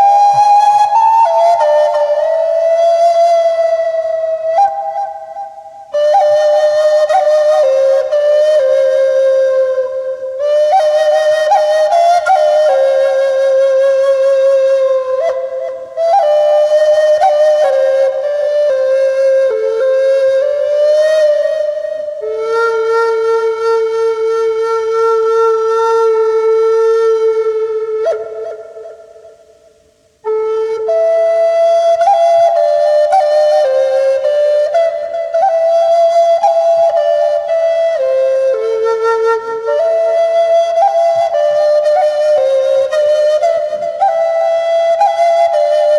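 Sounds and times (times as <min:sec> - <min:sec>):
flute playing slow line: 0:00.0 - 0:45.9.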